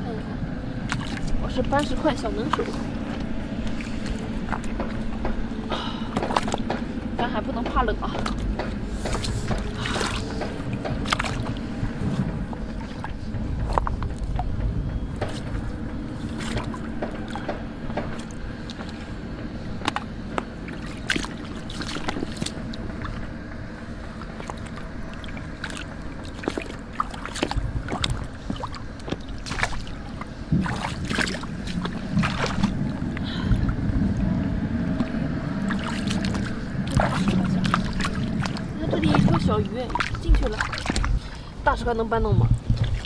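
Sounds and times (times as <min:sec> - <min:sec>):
steady low rumble: 0:00.0 - 0:43.0
water splashing: 0:00.7 - 0:14.6, 0:15.2 - 0:43.0.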